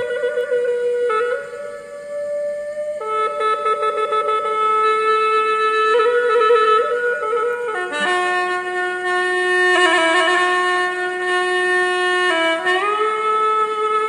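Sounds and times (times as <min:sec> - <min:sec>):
solo wind instrument playing: 0:00.0 - 0:14.0.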